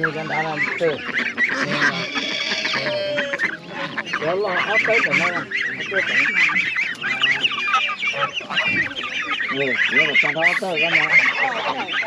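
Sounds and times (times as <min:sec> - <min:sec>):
chickens clucking and calling: 0:00.0 - 0:12.0.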